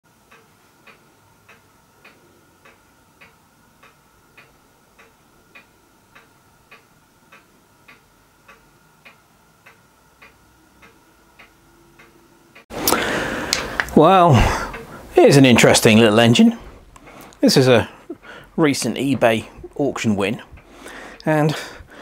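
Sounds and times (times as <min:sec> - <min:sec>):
faint even ticking: 0:00.1 - 0:22.0
faint steady whine: 0:00.1 - 0:22.0.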